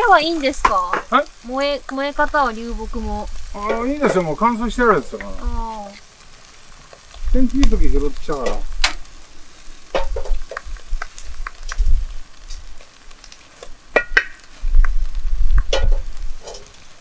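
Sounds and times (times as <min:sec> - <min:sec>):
low rumbles: 0:00.0 - 0:13.1, 0:13.7 - 0:16.7
campfire crackling and popping: 0:00.0 - 0:17.0
fish sizzling in oil: 0:00.0 - 0:17.0.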